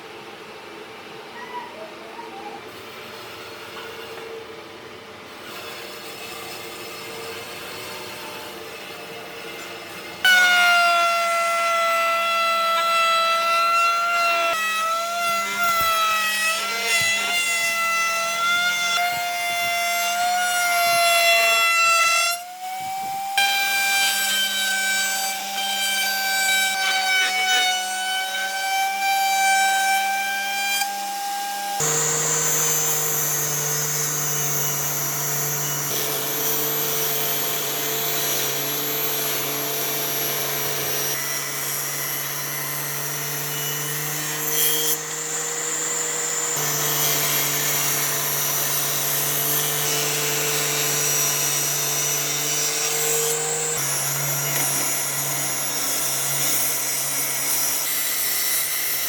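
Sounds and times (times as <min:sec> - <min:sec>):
power tool high whine: 0:05.4 - 0:59.0.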